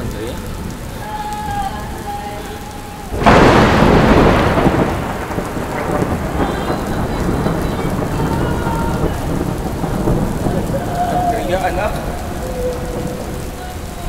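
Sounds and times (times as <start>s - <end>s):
heavy rain: 0.0s - 14.0s
rolling thunderclap: 0.0s - 14.0s.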